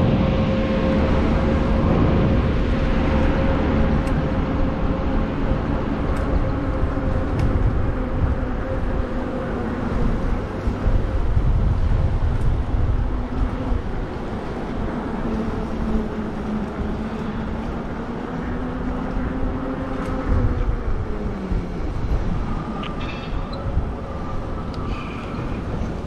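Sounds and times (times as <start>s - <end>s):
low hum: 0.0s - 26.0s
wind rushing over microphone: 0.0s - 26.0s.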